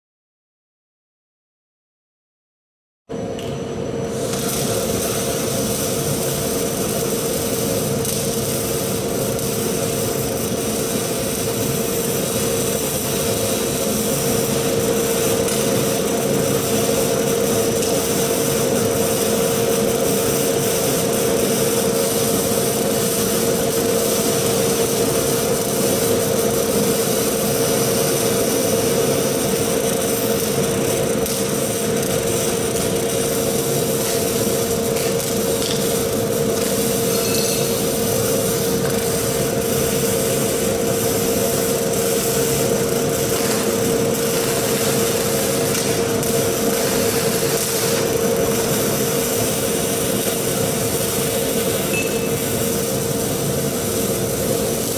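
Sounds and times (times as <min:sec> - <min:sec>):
fume extractor blower droning: 0:03.1 - 0:54.9
welding hiss and crackle: 0:03.2 - 0:54.9.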